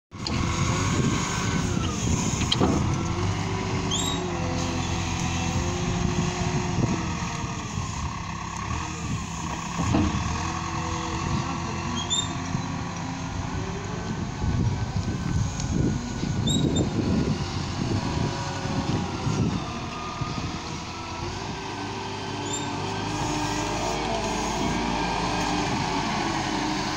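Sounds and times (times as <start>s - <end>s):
wheel loader engine running: 0.2s - 26.9s.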